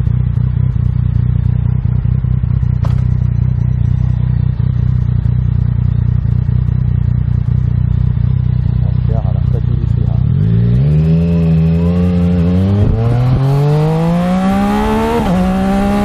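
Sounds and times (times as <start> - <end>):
motorcycle engine idling: 0.0 - 13.3.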